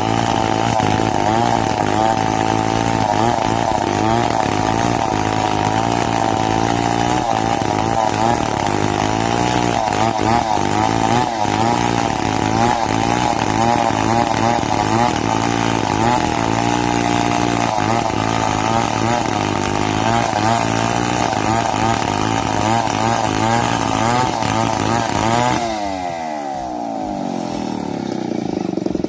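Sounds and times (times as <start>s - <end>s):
chainsaw cutting log: 0.0s - 29.0s.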